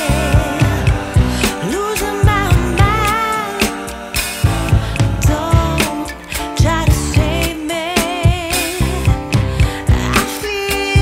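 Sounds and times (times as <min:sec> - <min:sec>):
person singing: 0:00.0 - 0:11.0
steady drum beat: 0:00.0 - 0:11.0.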